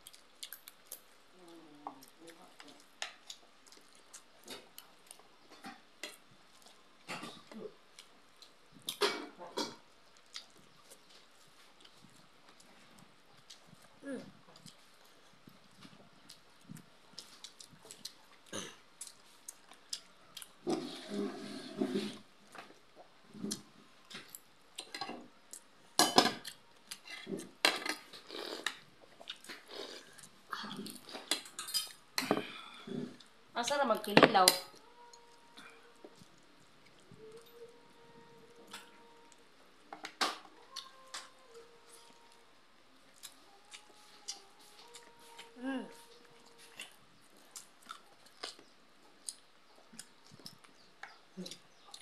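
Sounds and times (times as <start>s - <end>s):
wet smacking and chewing: 0.0s - 20.7s, 26.4s - 32.3s, 34.8s - 45.5s, 46.1s - 52.0s.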